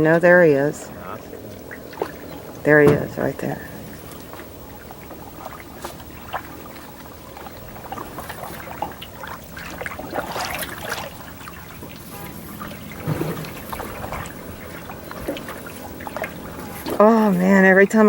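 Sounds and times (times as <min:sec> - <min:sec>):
canoe paddle in water: 0:00.0 - 0:18.0
small splashes: 0:00.0 - 0:18.0
water trickling and dripping: 0:00.0 - 0:18.0.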